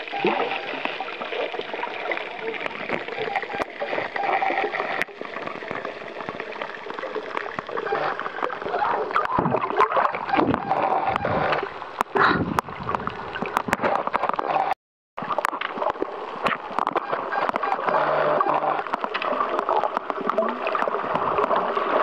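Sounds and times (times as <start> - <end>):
water sloshing and gurgling: 0.0 - 22.0.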